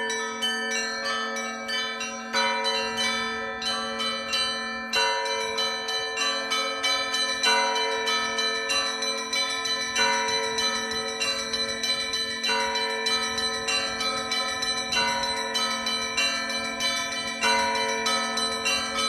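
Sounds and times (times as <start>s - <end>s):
hum of large bells: 0.0s - 19.0s
small bells ringing quickly: 0.0s - 19.0s.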